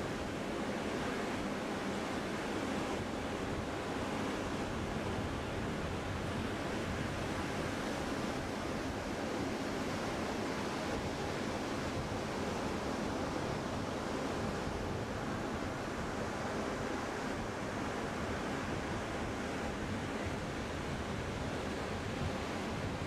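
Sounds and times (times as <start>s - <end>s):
ocean surf on a beach: 0.0s - 23.0s.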